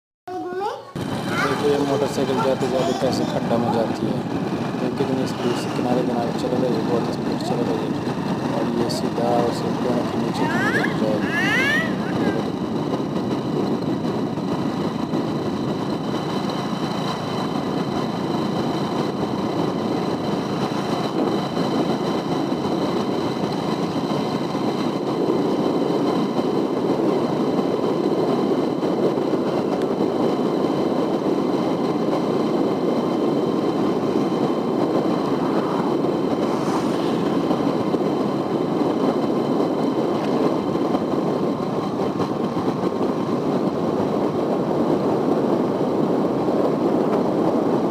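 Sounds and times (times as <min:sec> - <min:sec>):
vehicle engine rumble: 0:01.0 - 0:47.9.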